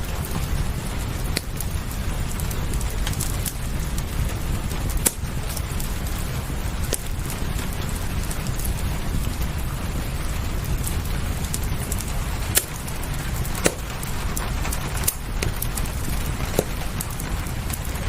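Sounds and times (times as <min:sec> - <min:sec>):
steady rain: 0:00.0 - 0:18.0
wood fire crackling: 0:00.0 - 0:18.0
sharp pops of fire: 0:00.2 - 0:18.0.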